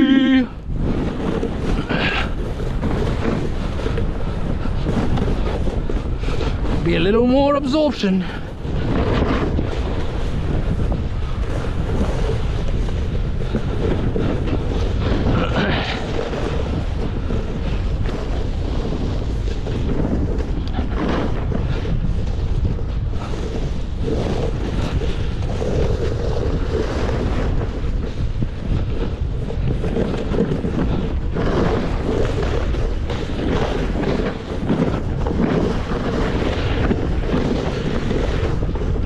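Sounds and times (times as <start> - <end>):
skis scraping on crusty snow: 0.0 - 39.0
wind buffeting microphone: 0.0 - 39.0.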